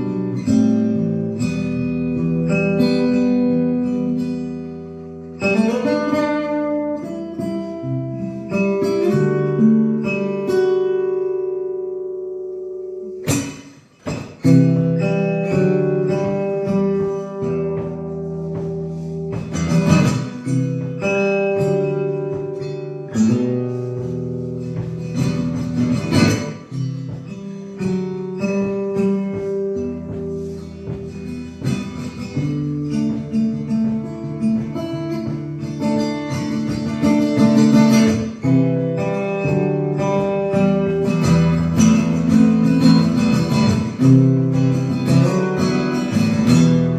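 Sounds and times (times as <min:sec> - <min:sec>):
solo acoustic guitar: 0:00.0 - 0:46.9.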